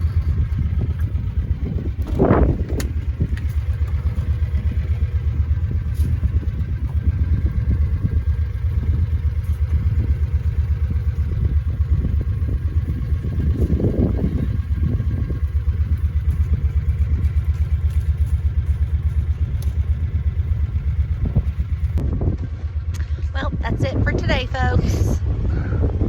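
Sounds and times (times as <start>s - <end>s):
vehicle engine throbbing: 0.0s - 26.0s.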